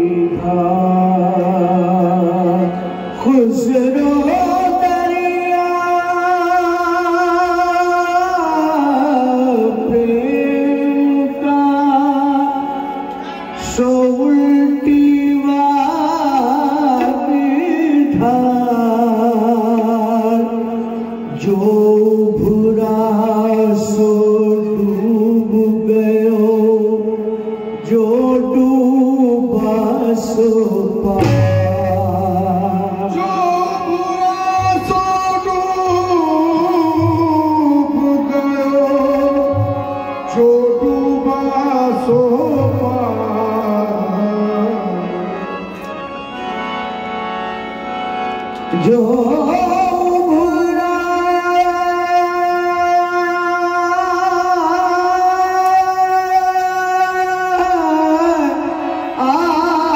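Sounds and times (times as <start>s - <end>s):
man singing: 0.0s - 46.3s, 48.6s - 59.9s
harmonium: 0.0s - 59.9s
tabla: 0.0s - 59.9s.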